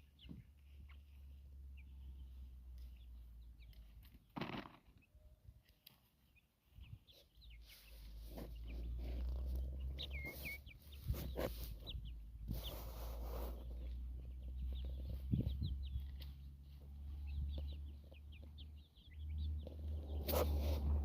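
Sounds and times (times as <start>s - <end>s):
chickens peeping and chirping: 0.0s - 21.0s.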